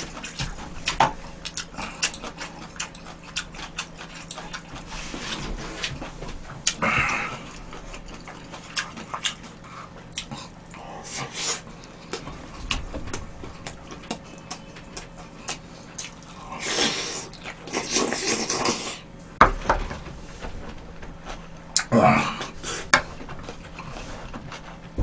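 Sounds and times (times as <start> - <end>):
chewing: 0.0 - 19.0, 21.1 - 25.0.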